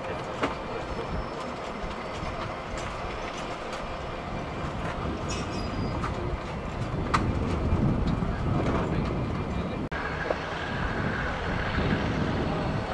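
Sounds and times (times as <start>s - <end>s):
wheels clicking over rail joints: 0.0s - 10.4s
locomotive low rumble: 0.0s - 12.9s.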